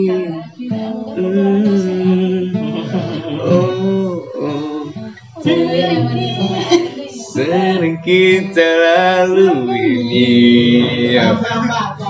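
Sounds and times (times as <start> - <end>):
acoustic guitar: 0.0 - 12.0
person singing: 0.0 - 12.0.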